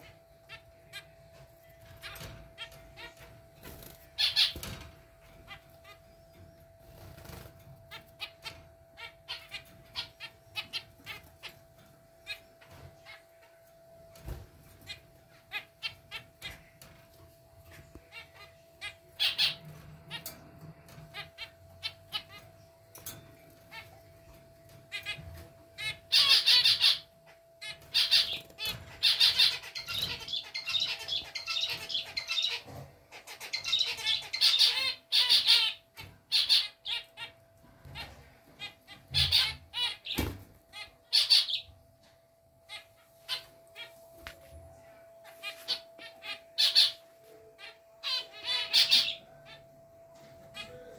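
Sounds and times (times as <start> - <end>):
finches chirping: 0.0 - 41.8, 42.6 - 50.9
faint steady hum: 0.0 - 50.9.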